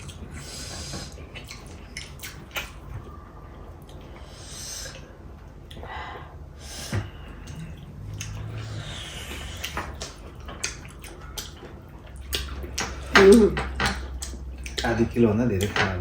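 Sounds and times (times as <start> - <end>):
wet chewing: 0.0 - 4.3, 7.1 - 15.8.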